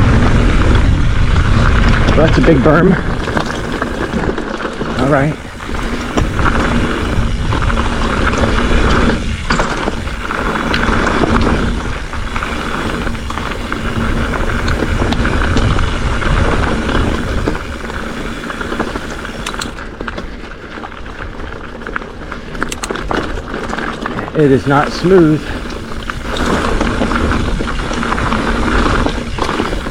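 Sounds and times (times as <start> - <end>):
bike rattling over bumps: 0.0 - 29.9
bike tyre noise on dirt: 0.0 - 29.9
wind buffeting the microphone: 0.0 - 29.9.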